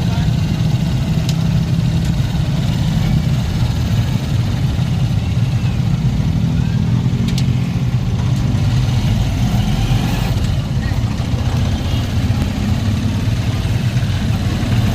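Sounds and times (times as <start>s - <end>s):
motorcycle engine running: 0.0s - 14.9s
road noise: 0.0s - 14.9s.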